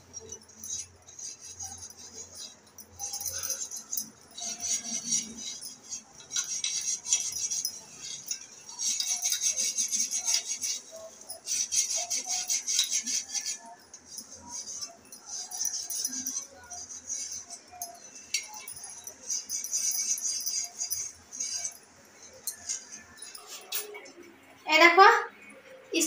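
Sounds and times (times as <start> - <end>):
scouring pad scrubbing metal: 0.0 - 23.8
bangles clinking: 0.0 - 24.6.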